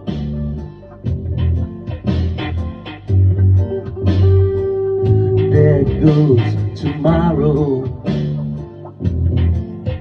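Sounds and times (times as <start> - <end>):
bass line: 0.0 - 10.0
electric guitar rock music: 0.0 - 10.0
steady drum beat: 1.0 - 10.0.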